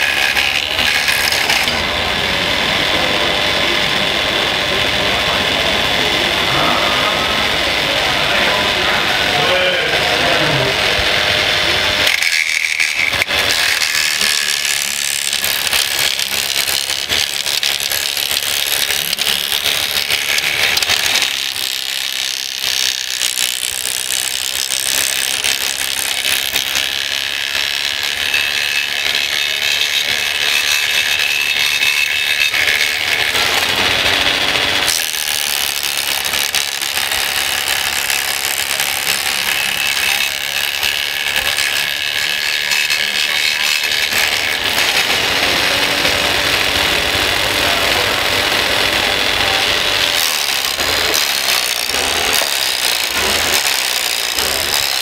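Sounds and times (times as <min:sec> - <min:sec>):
model wood chipper whining and grinding: 0:00.0 - 0:55.0.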